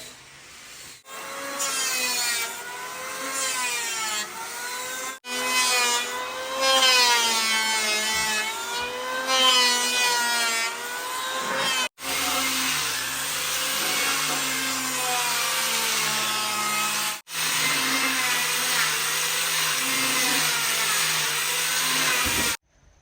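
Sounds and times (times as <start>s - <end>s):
power tool cutting wood: 0.0s - 22.6s.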